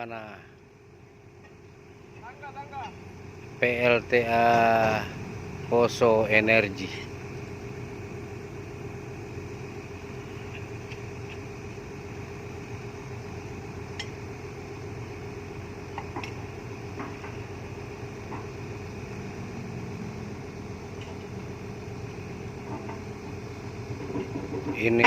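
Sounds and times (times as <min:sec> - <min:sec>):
heavy diesel engine idling: 0:00.0 - 0:25.0.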